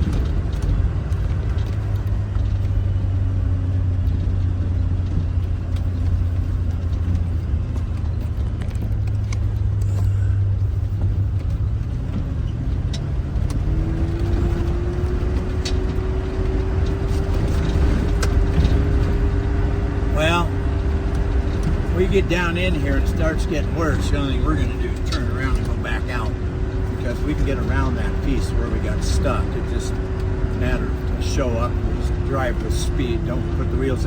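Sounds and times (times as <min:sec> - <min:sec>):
car engine drone: 0:00.0 - 0:34.0
engine whine: 0:00.0 - 0:34.0.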